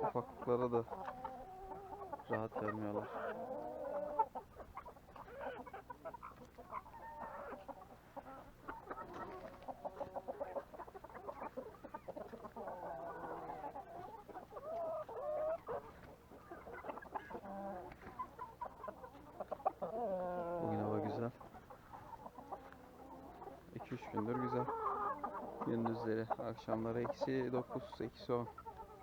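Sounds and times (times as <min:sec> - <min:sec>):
chickens and roosters clucking: 0:00.0 - 0:29.0.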